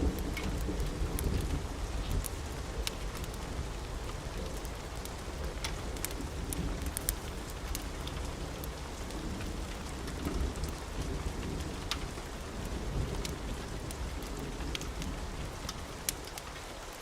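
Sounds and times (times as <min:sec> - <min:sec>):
thunder rumbling: 0:00.0 - 0:16.1
steady rain: 0:00.0 - 0:17.0
wood fire crackling: 0:00.0 - 0:17.0.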